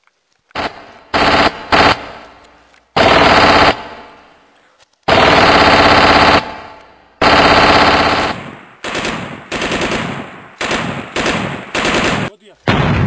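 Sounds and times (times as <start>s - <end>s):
airsoft rifles firing bursts: 0.5s - 4.4s, 5.1s - 12.4s.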